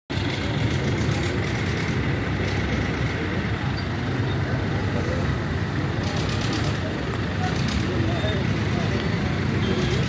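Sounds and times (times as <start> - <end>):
diesel crane engines rumbling: 0.1 - 10.0.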